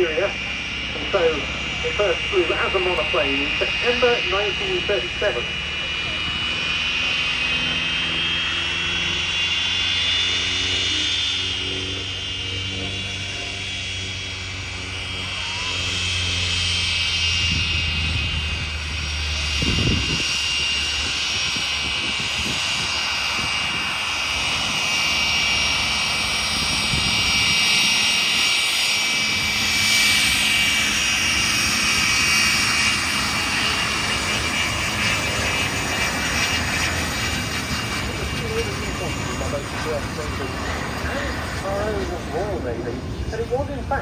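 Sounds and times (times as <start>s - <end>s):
aircraft engines whining: 0.0s - 44.0s.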